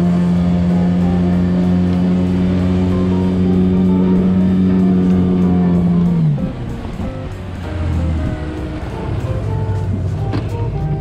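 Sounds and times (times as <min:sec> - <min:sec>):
guitar music: 0:00.0 - 0:11.0
outboard motor running: 0:00.0 - 0:11.0.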